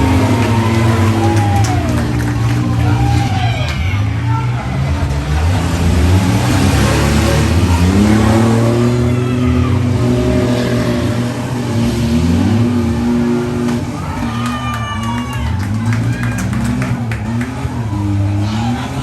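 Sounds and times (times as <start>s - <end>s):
vehicle engines revving: 0.0s - 19.0s.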